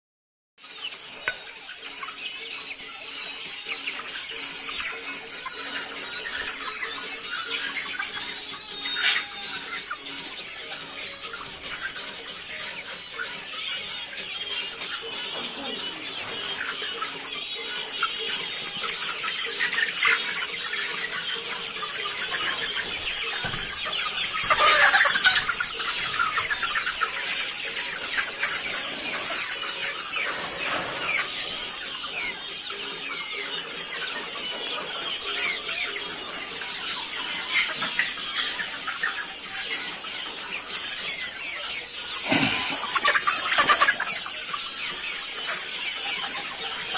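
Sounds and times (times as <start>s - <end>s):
chickens clucking: 0.6s - 46.9s.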